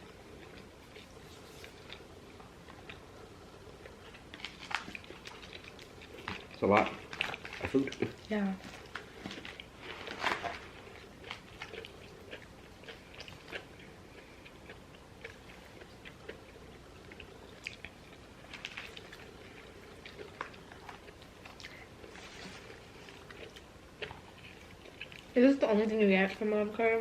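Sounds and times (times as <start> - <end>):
close chewing and biting: 0.0 - 25.4.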